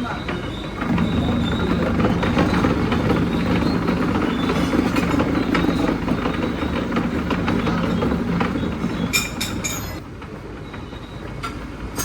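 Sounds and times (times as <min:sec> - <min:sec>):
milling machine rumbling: 0:00.0 - 0:12.0.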